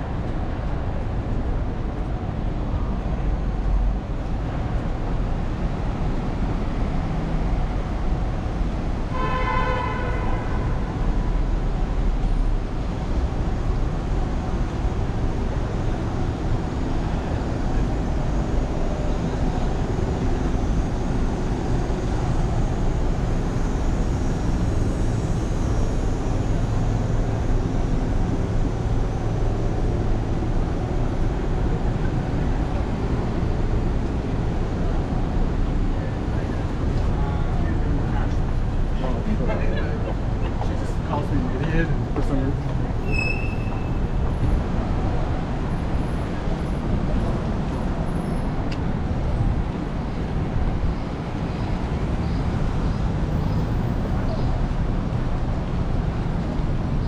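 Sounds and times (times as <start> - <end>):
street traffic: 0.0 - 57.0
vehicles passing: 0.0 - 57.0.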